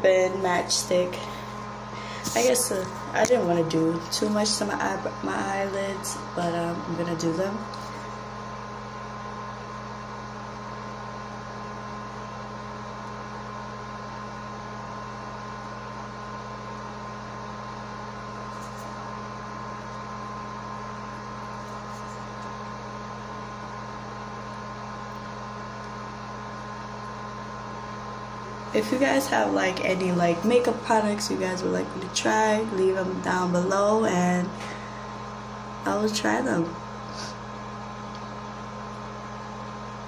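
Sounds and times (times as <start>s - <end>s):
steady tonal hum: 0.0s - 40.0s.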